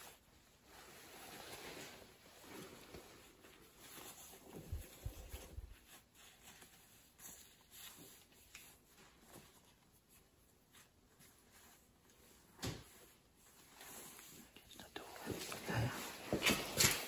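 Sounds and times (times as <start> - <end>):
clothing rustling: 0.0 - 17.0.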